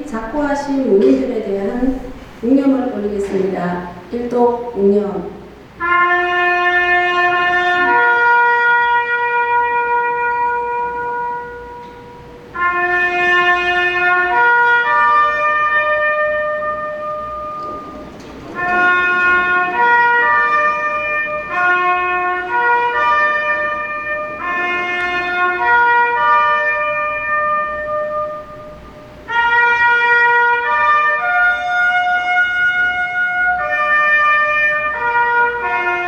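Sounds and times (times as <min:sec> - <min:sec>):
solo wind instrument melody: 0:05.8 - 0:36.0.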